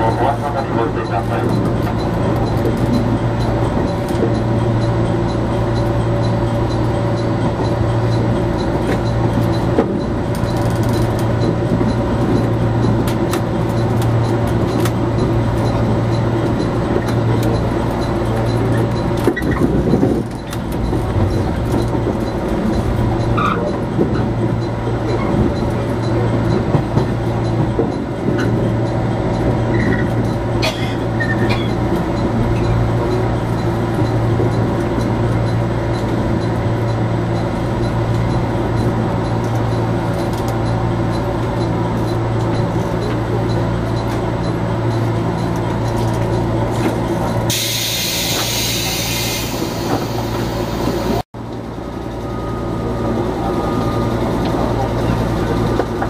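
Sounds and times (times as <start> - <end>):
wheels clacking over rail joints: 0.0 - 50.2
train wheels rumbling on rail: 0.0 - 56.0.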